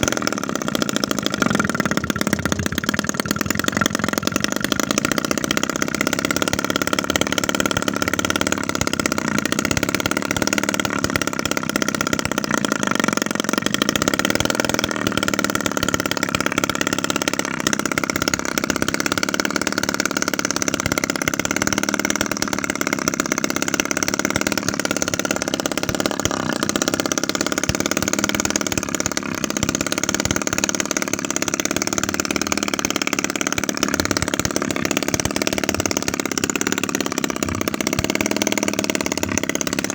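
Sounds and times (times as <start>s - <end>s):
small two-stroke engine running: 0.0s - 39.9s.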